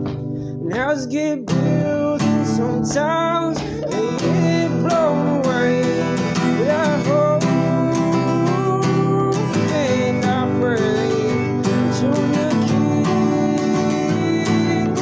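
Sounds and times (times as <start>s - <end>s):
acoustic guitar strumming: 0.0s - 15.0s
person singing long notes: 0.6s - 15.0s.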